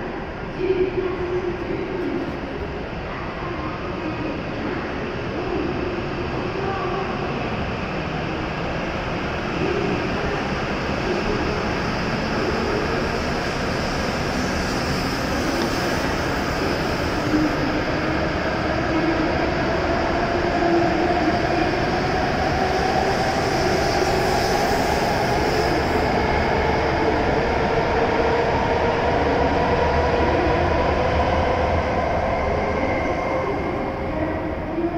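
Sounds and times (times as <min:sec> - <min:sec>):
rumble of passing train cars: 0:00.0 - 0:34.9.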